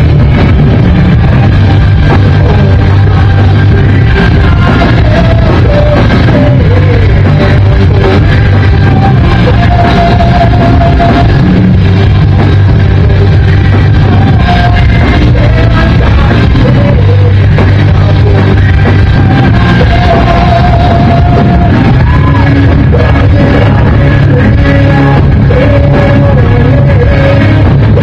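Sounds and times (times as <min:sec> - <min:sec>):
person singing long held notes: 0:00.0 - 0:28.0
rock band playing live: 0:00.0 - 0:28.0.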